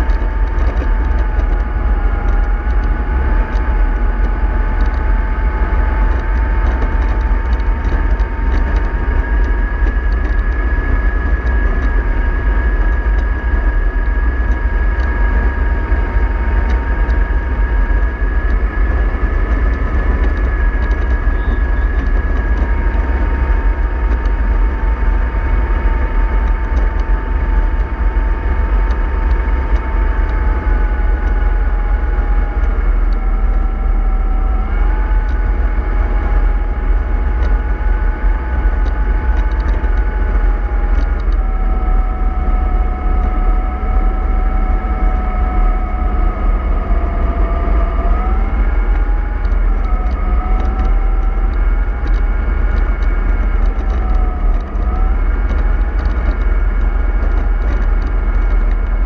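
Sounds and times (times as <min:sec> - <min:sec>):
bus drivetrain rumble: 0:00.0 - 0:59.0
drivetrain whine: 0:00.0 - 0:59.0.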